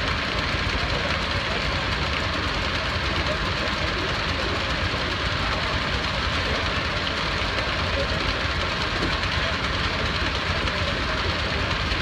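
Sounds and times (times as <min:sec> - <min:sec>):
heavy machinery running: 0:00.0 - 0:12.0.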